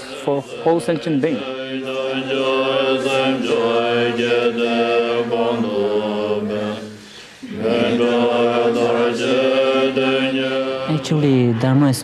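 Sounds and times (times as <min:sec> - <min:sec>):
monks chanting: 0:00.0 - 0:12.0.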